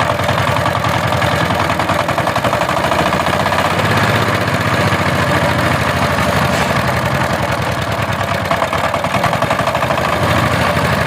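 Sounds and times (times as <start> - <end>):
diesel tiller engine running: 0.0 - 11.0.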